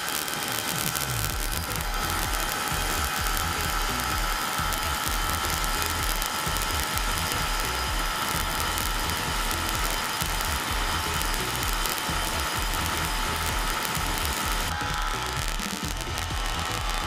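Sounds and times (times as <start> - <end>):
motorcycle engine running: 0.7 - 17.0.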